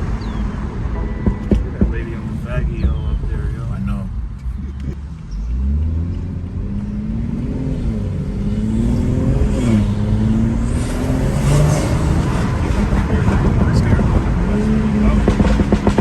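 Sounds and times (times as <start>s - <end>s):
car engine revving: 0.0s - 16.0s
road and wind noise: 0.0s - 16.0s.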